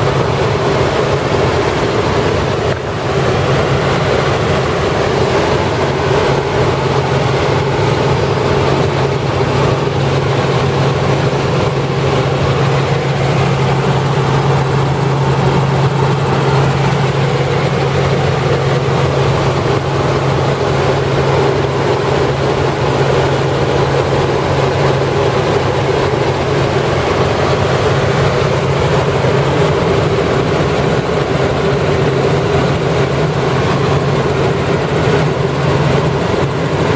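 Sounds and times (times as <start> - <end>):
helicopter in flight: 0.0 - 36.9.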